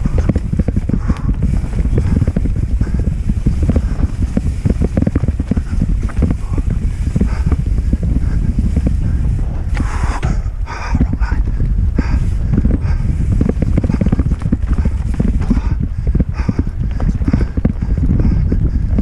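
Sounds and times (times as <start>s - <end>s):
bike clattering over bumps: 0.0s - 19.0s
wind buffeting a microphone: 0.0s - 19.0s.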